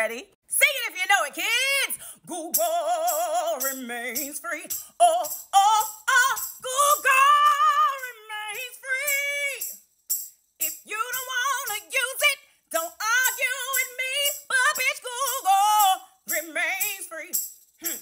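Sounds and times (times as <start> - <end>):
woman singing belting: 0.5 - 9.7, 10.6 - 18.0.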